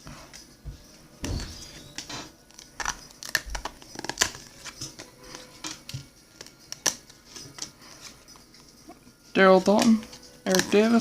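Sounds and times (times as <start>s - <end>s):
trading cards flicking and rustling: 1.2s - 11.0s.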